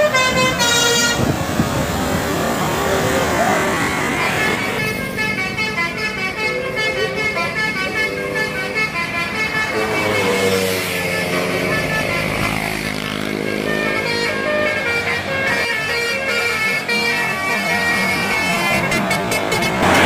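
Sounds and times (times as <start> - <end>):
multi-tone air horn tune: 0.0 - 1.4, 4.2 - 20.0
bus engine and tyres: 0.0 - 20.0.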